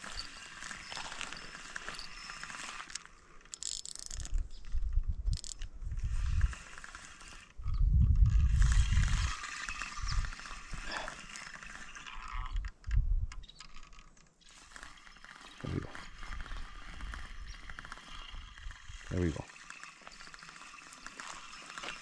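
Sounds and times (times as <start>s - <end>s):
fishing reel ratcheting: 0.0s - 22.0s.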